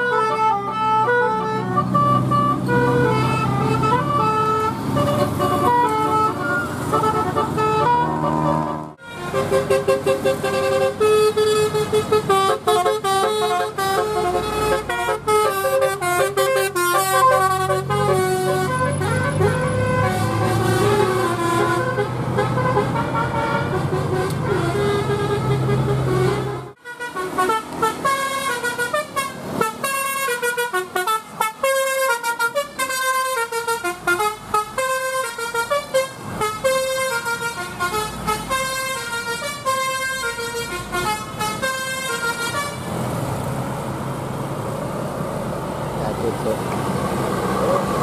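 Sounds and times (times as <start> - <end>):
bus horn playing a tune: 0.0 - 42.9
traffic noise: 0.0 - 48.0.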